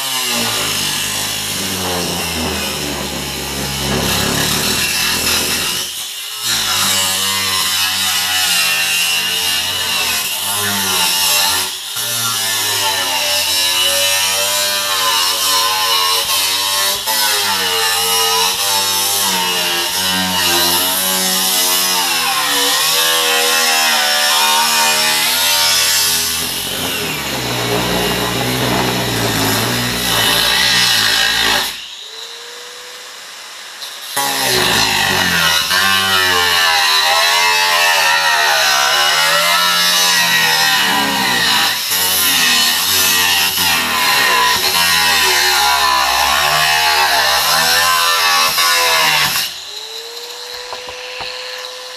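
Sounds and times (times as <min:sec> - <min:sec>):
angle grinder cutting steel: 0:00.0 - 0:32.4, 0:33.8 - 0:51.9.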